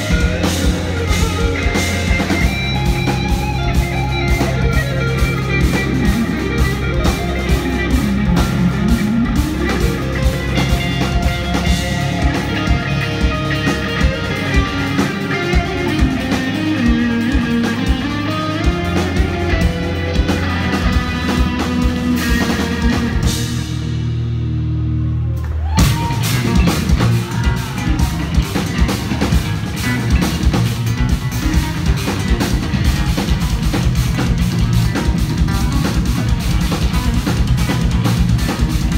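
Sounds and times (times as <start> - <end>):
drum kit playing: 0.0 - 38.9
electric guitars playing metal: 0.0 - 38.9.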